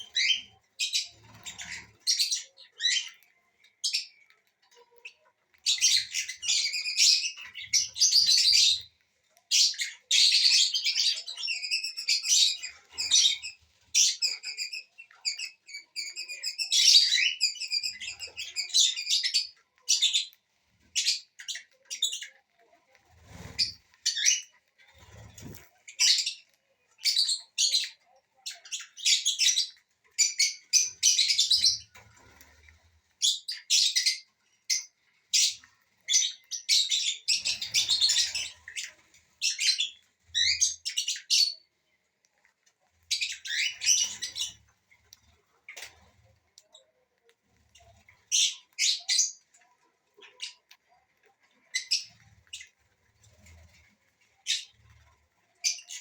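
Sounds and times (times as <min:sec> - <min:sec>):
parrots chirping and squawking: 0:00.0 - 0:41.8, 0:43.1 - 0:47.0, 0:47.6 - 0:56.0.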